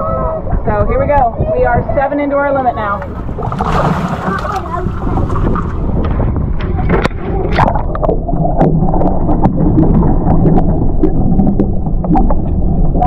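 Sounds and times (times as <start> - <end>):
wind rumble on microphone: 0.0 - 13.0
water sloshing and churning: 2.0 - 13.0.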